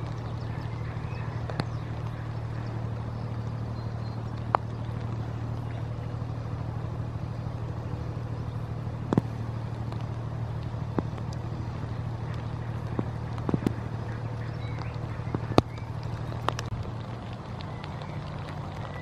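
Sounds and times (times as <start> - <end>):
ship diesel engine humming: 0.0 - 19.0.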